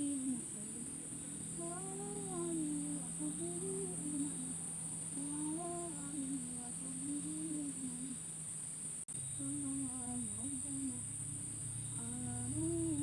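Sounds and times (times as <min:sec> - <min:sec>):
man humming a slow tune: 0:00.0 - 0:01.0, 0:01.6 - 0:04.6, 0:05.2 - 0:08.2, 0:09.4 - 0:13.0
high insect buzz: 0:00.0 - 0:13.0.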